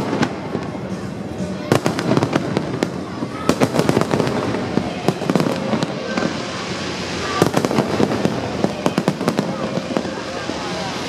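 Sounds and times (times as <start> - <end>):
fireworks bangs: 0.0 - 11.0
fireworks hiss: 0.0 - 11.0.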